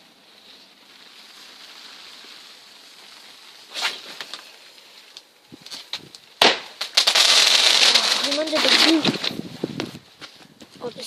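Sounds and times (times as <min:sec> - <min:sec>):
firework hissing: 0:00.0 - 0:10.2.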